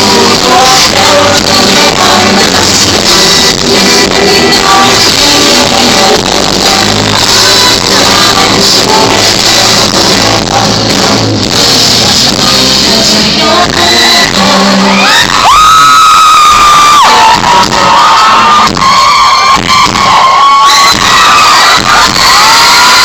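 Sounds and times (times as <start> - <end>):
crowd shouting: 0.0 - 10.3, 14.6 - 23.0
distorted pop-rock band with singers: 0.0 - 23.0.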